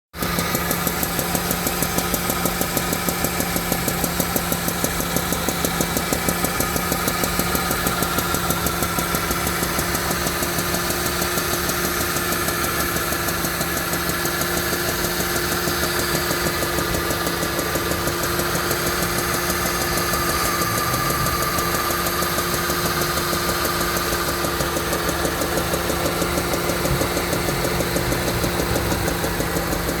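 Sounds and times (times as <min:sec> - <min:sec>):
car engine running: 0:00.2 - 0:30.0.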